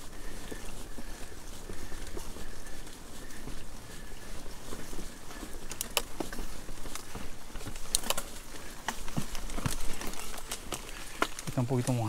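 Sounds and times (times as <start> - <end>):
mountain bike rattling over rocks: 0.0 - 12.0.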